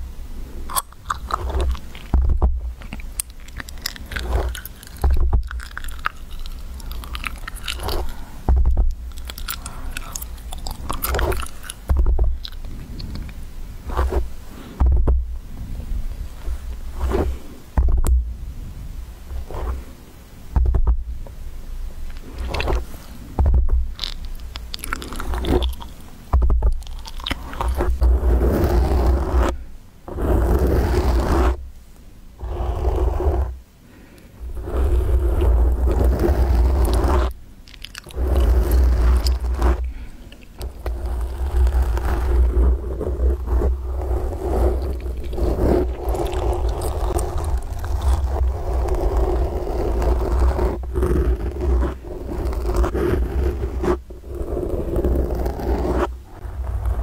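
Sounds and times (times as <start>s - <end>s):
fingers scratching on microphone: 1.1s - 15.3s, 16.3s - 18.2s, 19.3s - 20.0s, 20.6s - 21.1s, 22.1s - 31.7s, 32.4s - 33.6s, 34.4s - 57.0s.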